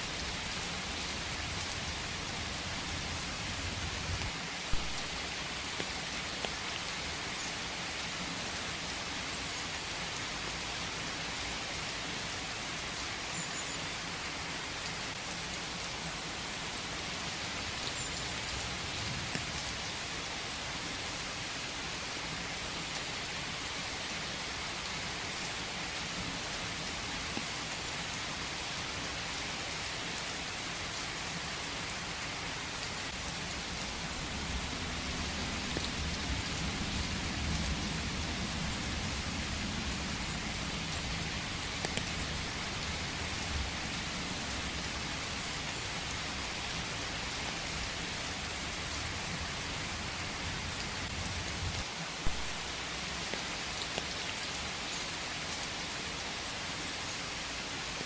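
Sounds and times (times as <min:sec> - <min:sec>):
rain falling in a forest: 0:00.0 - 0:58.0.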